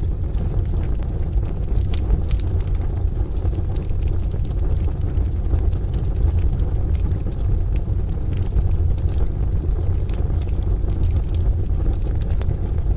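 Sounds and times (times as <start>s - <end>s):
rain: 0.0s - 12.9s
wood fire crackling and popping: 0.0s - 12.9s.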